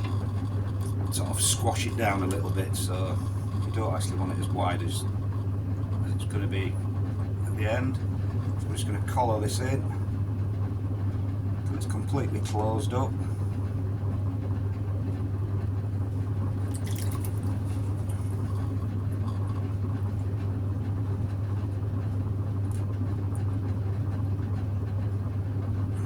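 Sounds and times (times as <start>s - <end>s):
potter's wheel humming: 0.0s - 26.0s.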